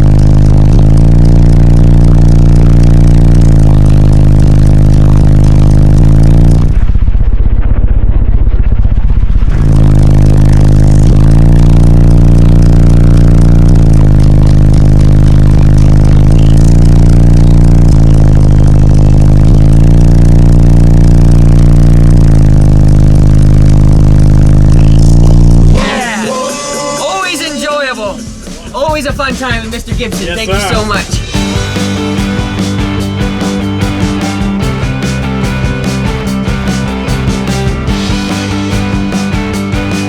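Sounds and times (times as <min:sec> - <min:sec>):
bass-heavy music from car speakers: 0:00.0 - 0:07.7, 0:09.0 - 0:40.0.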